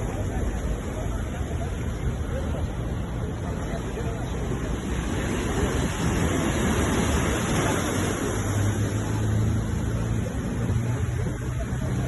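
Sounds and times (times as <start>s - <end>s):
sea waves surf: 0.0s - 12.0s.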